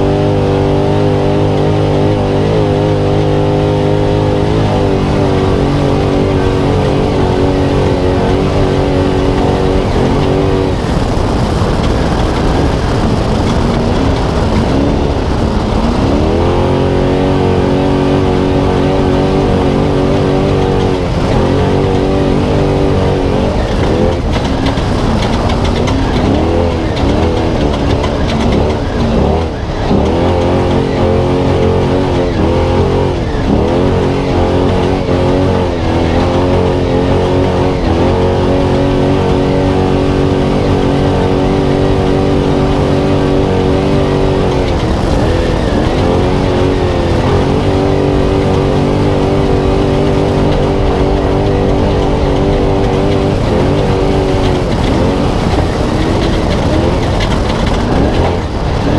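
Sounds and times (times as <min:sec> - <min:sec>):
truck engine running hard: 0:00.0 - 0:58.9.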